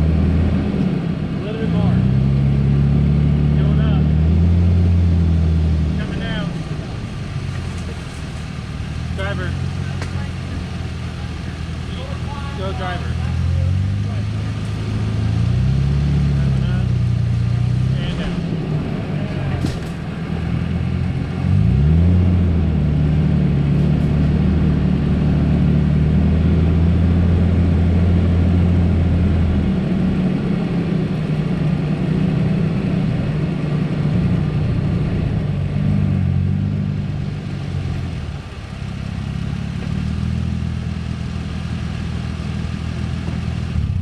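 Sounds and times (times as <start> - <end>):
off-road vehicle engine revving: 0.0 - 44.0.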